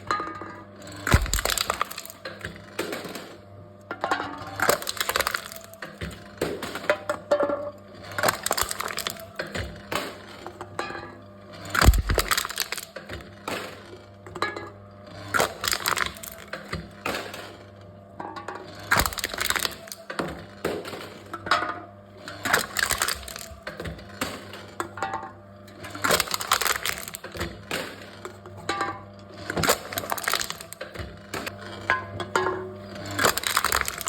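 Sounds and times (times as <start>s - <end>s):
cans crushed by machine: 0.0s - 34.0s.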